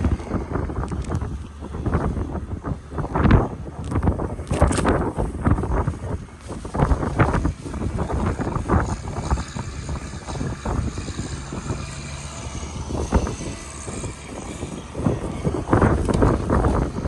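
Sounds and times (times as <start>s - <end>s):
traffic rumble: 0.0s - 17.0s
vehicle engine running: 0.0s - 17.0s.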